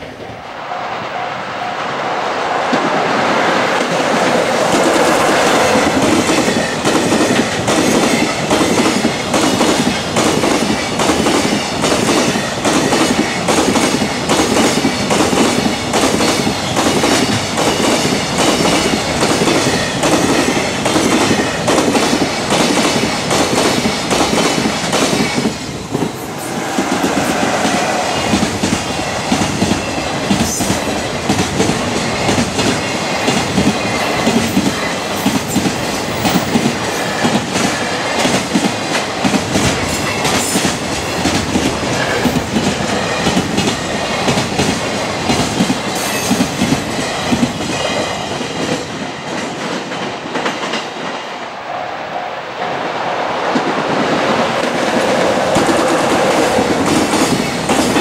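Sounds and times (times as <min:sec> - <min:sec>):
freight train rushing past: 0:00.0 - 0:58.0
wheels clickety-clack over rail joints: 0:02.7 - 0:51.3, 0:53.5 - 0:58.0.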